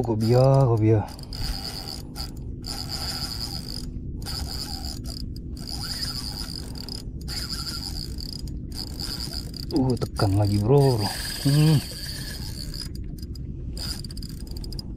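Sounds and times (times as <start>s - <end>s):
fishing reel gears clicking: 0.0s - 14.9s
high pulsing chirr: 0.0s - 14.9s
low hum: 0.0s - 14.9s.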